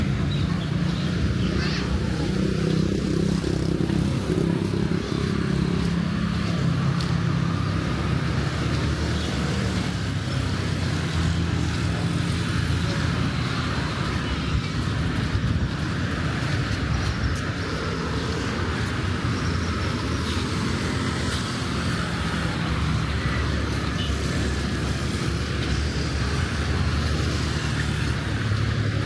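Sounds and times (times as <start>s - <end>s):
busy street hum: 0.0s - 29.0s
vehicles passing: 0.0s - 29.0s.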